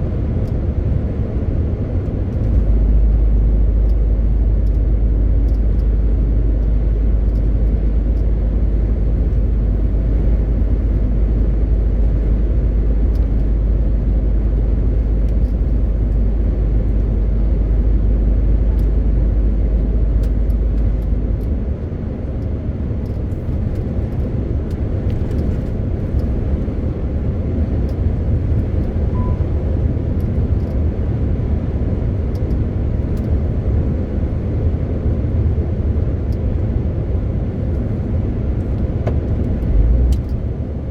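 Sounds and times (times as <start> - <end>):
lorry diesel engine droning: 0.0 - 35.5
tyre and road noise: 0.0 - 40.9.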